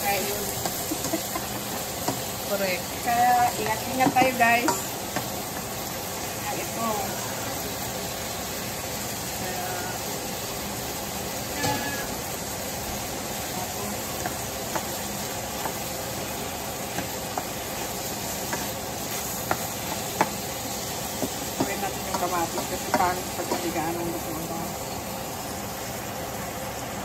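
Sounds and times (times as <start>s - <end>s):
vegetables sizzling in a pan: 0.0s - 27.0s.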